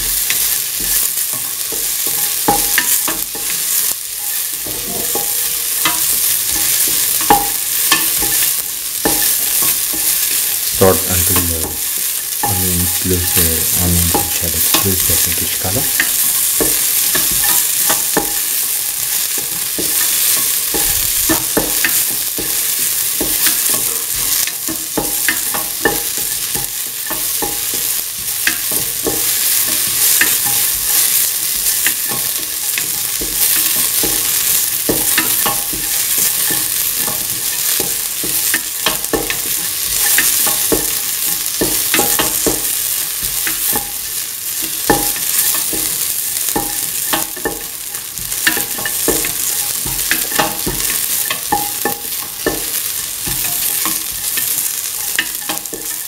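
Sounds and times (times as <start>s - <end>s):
onions sizzling in oil: 0.0s - 56.0s
utensil scraping a pan: 0.0s - 56.0s.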